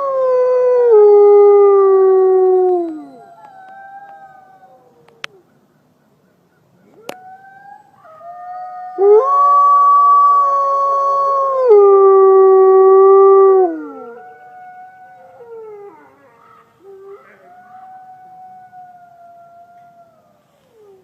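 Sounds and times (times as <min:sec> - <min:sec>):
wolves howling: 0:00.0 - 0:05.5, 0:06.9 - 0:21.0.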